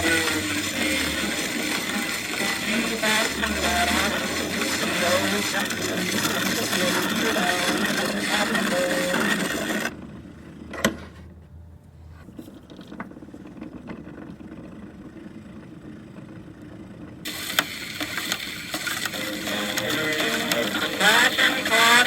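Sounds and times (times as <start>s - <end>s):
gramophone record crackle: 0.0s - 9.9s, 12.6s - 22.0s.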